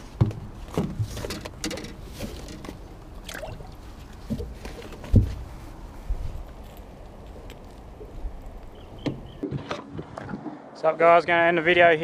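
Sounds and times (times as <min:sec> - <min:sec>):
rustles: 0:00.0 - 0:10.4.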